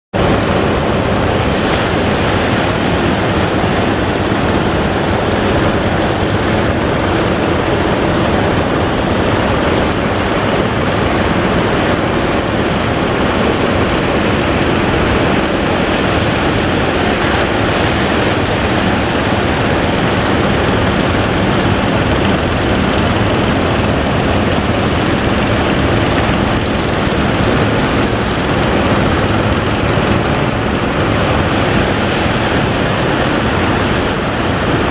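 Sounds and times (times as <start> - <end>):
waves breaking: 0.1 - 34.9
wind on microphone: 0.1 - 34.9.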